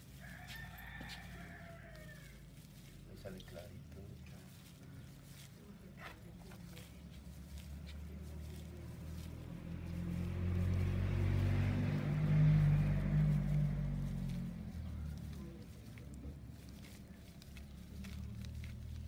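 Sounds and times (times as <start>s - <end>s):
faint clicks of straw weaving: 0.0s - 19.0s
vehicle driving past: 0.0s - 19.0s.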